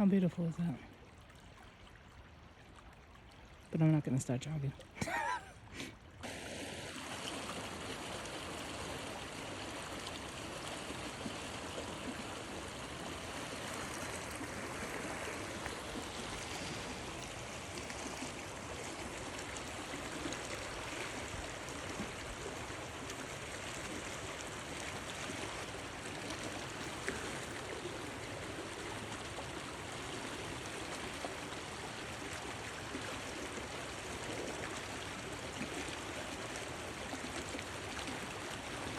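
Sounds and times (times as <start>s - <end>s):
river water rushing: 4.9s - 38.9s.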